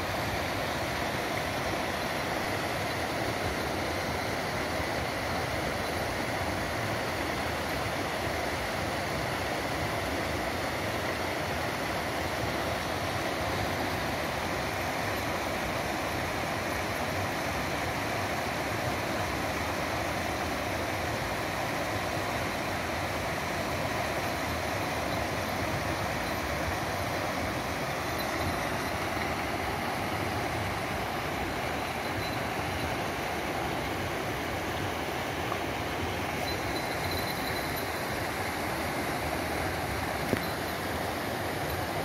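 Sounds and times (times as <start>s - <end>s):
stream rushing over rocks: 0.0s - 42.0s.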